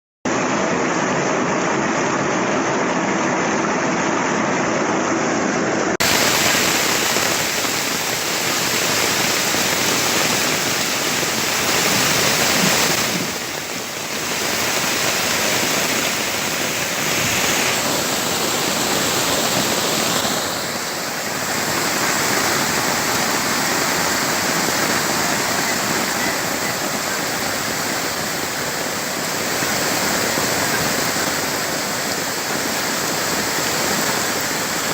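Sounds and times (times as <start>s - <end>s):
rushing floodwater and rain: 6.0s - 34.9s.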